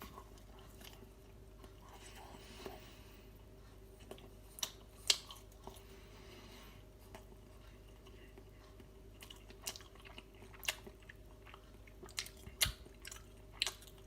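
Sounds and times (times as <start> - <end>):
faint steady hum: 0.0 - 14.0
person chewing: 0.0 - 14.0.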